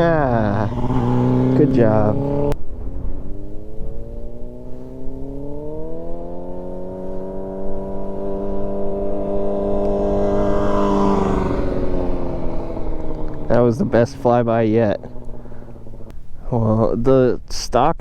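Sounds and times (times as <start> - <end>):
motorcycle engine revving: 0.0 - 16.3.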